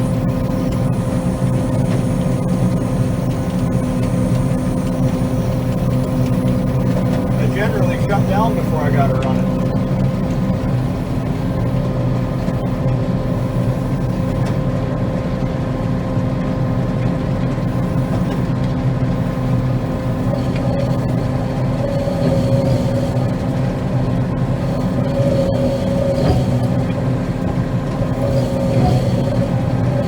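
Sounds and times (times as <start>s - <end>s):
combine harvester engine drone: 0.0s - 30.0s.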